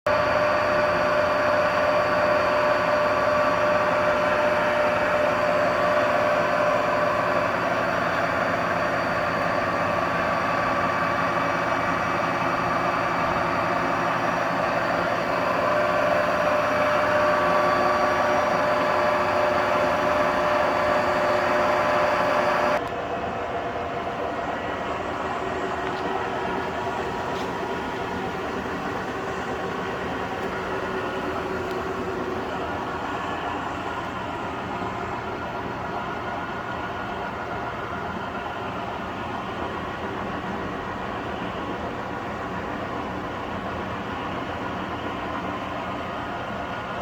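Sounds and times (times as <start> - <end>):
lathe mechanical whir: 0.1 - 47.0
machine whine: 0.1 - 47.0.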